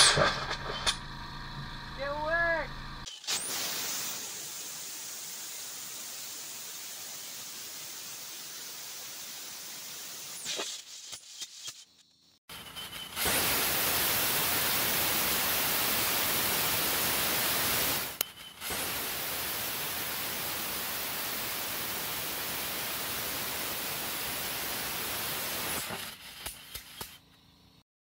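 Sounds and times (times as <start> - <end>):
rocket engine exhaust hissing: 0.0 - 10.9, 12.5 - 27.8.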